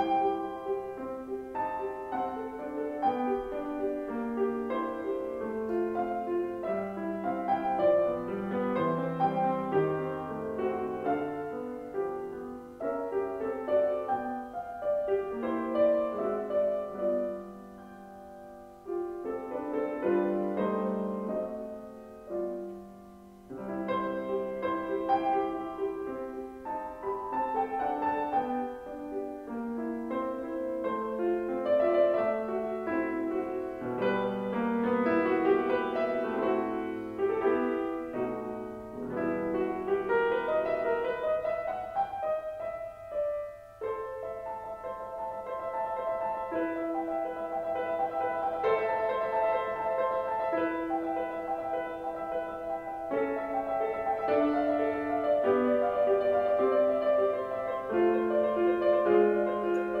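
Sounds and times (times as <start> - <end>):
grand piano piece: 0.0 - 60.0.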